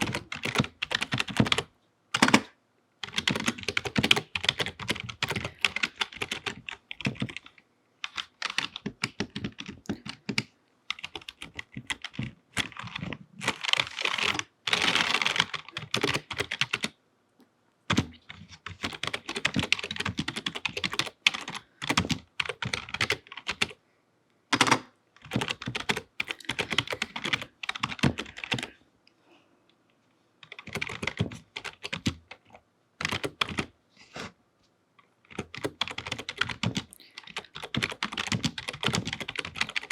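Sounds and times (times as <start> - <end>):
fingernails typing on keyboard: 0.0 - 16.9, 17.9 - 23.8, 24.5 - 28.8, 30.4 - 33.7, 35.3 - 39.9.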